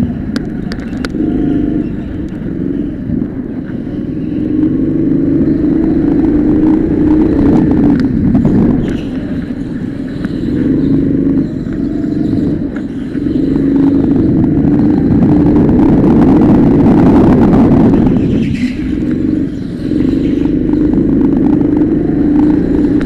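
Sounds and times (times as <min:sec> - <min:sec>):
go-kart engine at high revs: 0:00.0 - 0:23.0.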